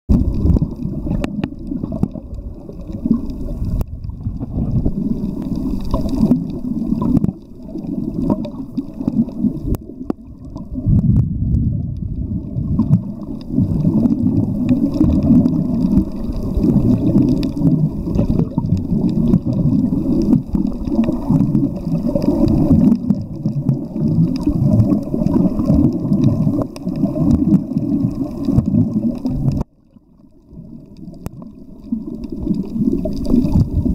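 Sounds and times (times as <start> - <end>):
underwater churning rumble: 0.1 - 33.9
faint clicks: 0.2 - 12.1, 12.7 - 33.7.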